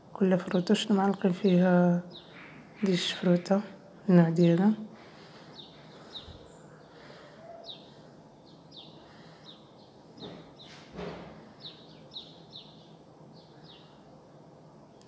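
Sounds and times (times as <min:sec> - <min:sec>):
outdoor background noise: 0:00.0 - 0:15.0
small birds chirping: 0:00.2 - 0:15.0.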